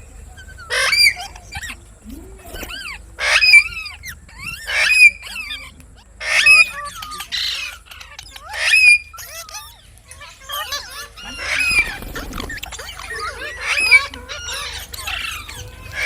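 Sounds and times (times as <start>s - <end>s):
parakeets chattering softly: 0.0s - 16.0s
parakeets screeching: 0.0s - 16.0s.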